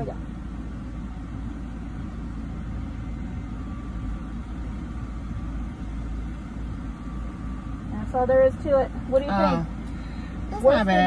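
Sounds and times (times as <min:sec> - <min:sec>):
car idling from inside cabin: 0:00.0 - 0:11.0.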